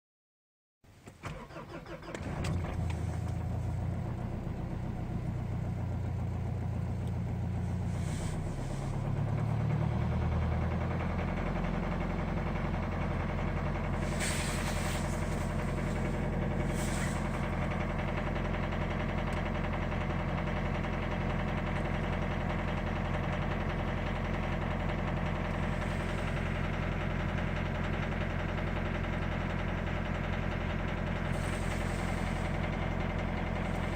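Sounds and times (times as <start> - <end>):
diesel engine starting: 1.0 - 33.9
diesel engine idling with knock: 1.2 - 33.9.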